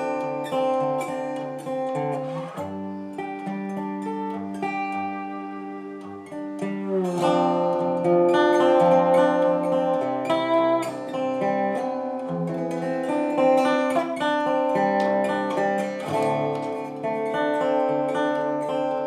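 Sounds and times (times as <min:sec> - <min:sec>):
plucked acoustic guitar: 0:00.0 - 0:19.0.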